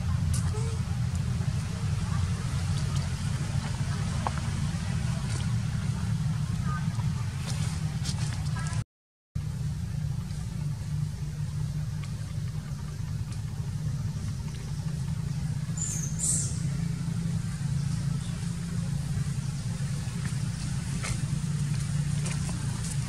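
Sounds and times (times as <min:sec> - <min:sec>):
low engine-like rumble: 0:00.0 - 0:08.8, 0:09.4 - 0:23.0.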